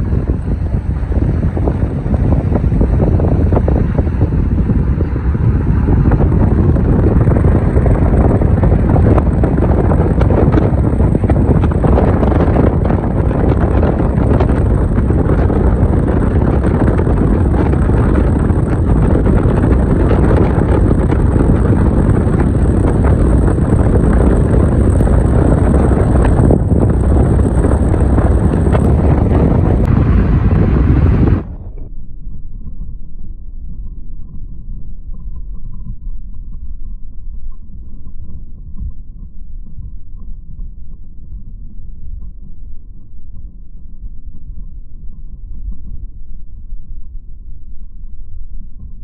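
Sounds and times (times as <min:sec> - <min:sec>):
car road and wind noise: 0:00.0 - 0:49.0.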